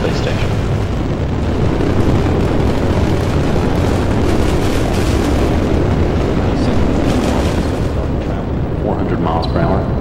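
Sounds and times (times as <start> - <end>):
rocket engine roar with crackling: 0.0 - 10.0.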